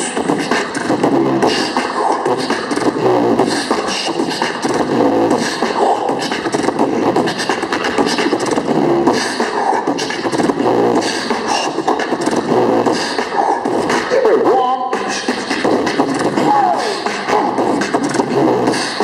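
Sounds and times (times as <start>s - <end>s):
live singing through loudspeakers: 0.0s - 19.0s.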